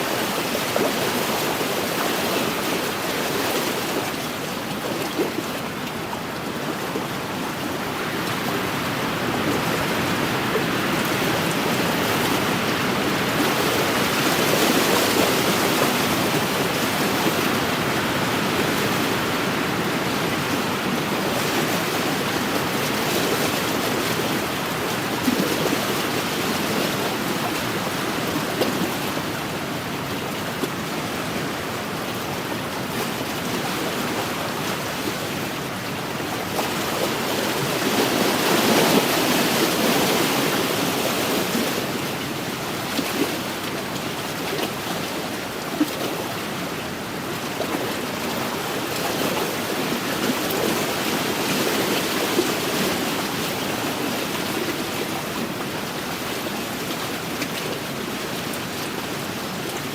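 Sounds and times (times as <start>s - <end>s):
waves lapping on a shore: 0.0s - 59.9s.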